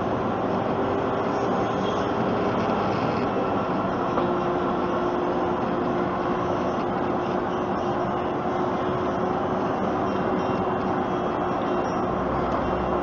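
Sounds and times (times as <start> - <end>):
road and engine noise in cab: 0.0 - 13.0.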